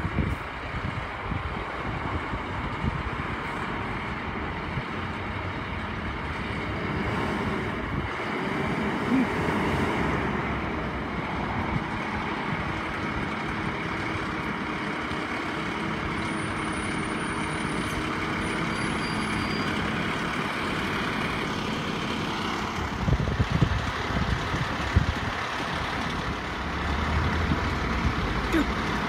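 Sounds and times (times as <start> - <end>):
fire engine diesel engine running: 0.0 - 29.0.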